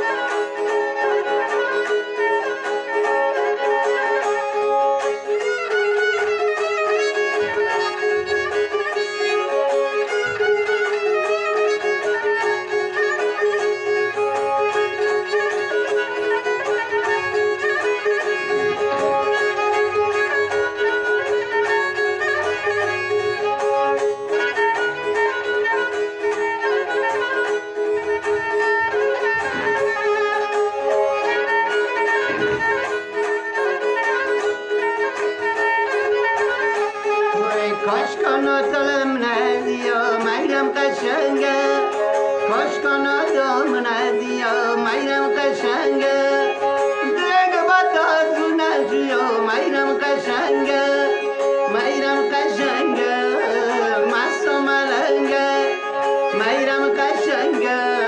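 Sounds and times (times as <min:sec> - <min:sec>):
bowed string melody: 0:00.0 - 0:58.0
plucked lute strokes: 0:00.0 - 0:58.0.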